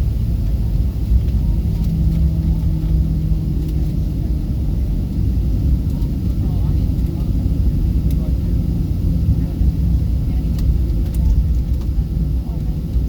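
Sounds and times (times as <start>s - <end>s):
jet cabin low rumble: 0.0s - 13.0s.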